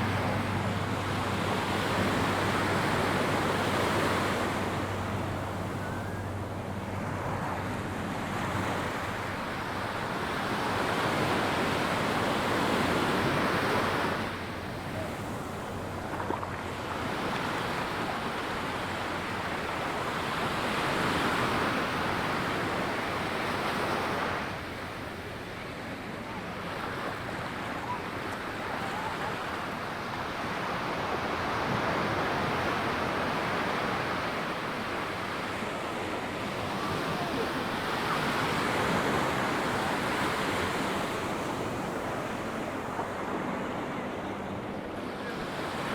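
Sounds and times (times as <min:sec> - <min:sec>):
ocean surf on sandy beach: 0:00.0 - 0:45.9.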